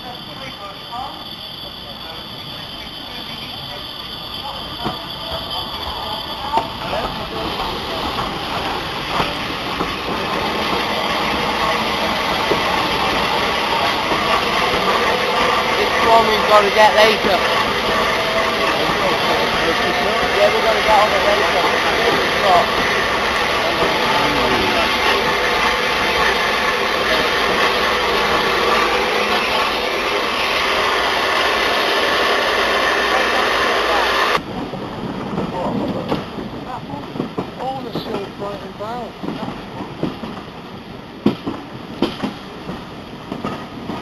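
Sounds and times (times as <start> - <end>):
train rumbling on track: 0.0 - 44.0.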